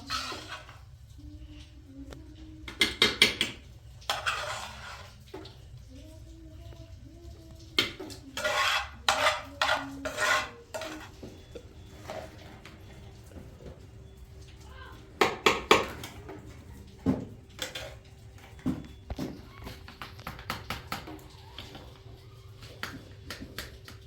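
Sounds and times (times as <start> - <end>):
pots and dishes clattering: 0.0 - 1.0, 2.6 - 5.8, 7.6 - 24.0.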